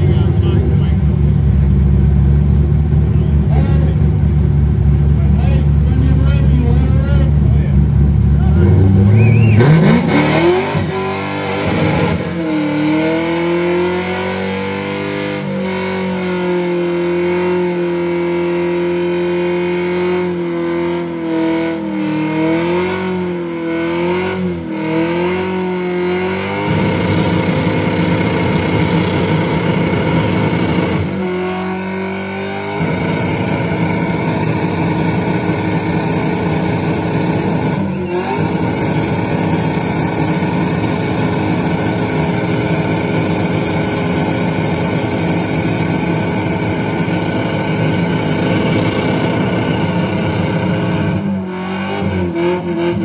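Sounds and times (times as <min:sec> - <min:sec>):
car engine revving hard: 0:08.3 - 0:53.0.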